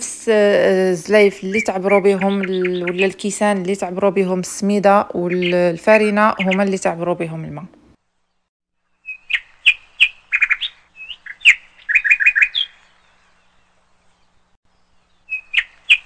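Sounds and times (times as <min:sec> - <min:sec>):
bird chirping and trilling: 0:01.2 - 0:07.0, 0:08.1 - 0:16.0.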